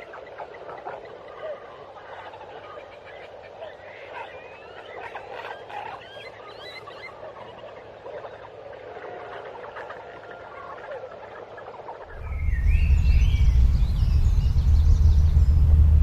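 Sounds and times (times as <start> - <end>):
frogs calling: 0.0 - 15.5
birds chirping and trilling: 0.0 - 16.0.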